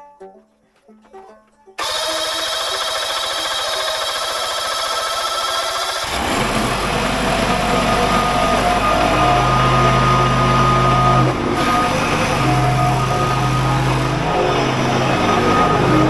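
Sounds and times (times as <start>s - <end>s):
mower engine running: 1.8s - 16.0s.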